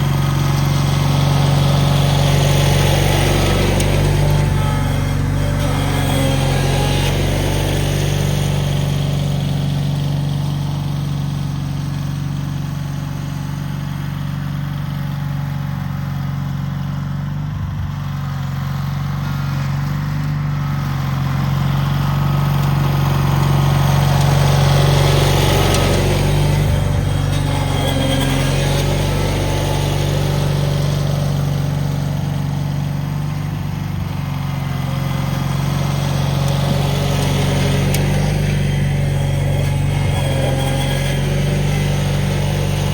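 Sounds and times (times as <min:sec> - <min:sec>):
garden tractor engine running: 0:00.0 - 0:42.9.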